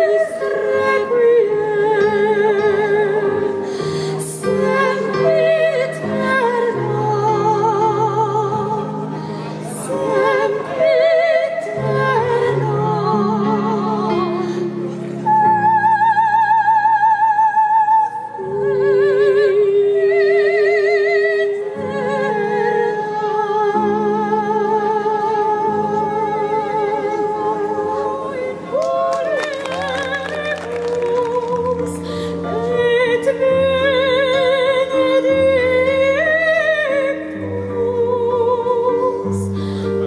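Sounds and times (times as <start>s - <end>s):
operatic singing: 4.2s - 15.6s, 18.0s - 40.0s.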